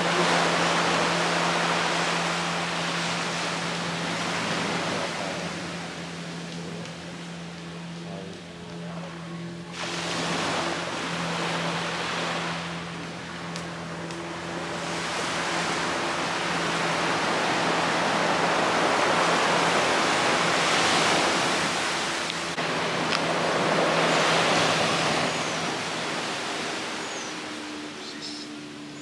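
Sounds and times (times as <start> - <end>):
waves washing onto shore: 0.0 - 8.0, 9.1 - 29.0.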